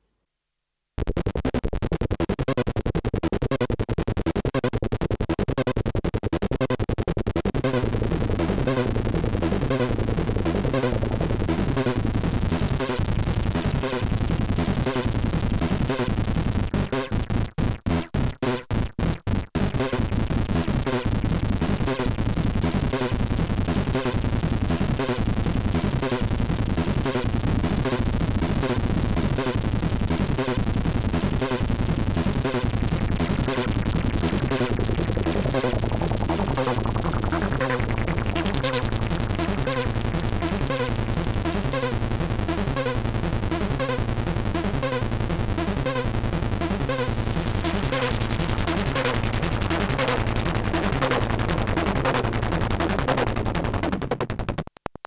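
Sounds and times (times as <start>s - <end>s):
analog synth low notes: 1.4s - 54.6s.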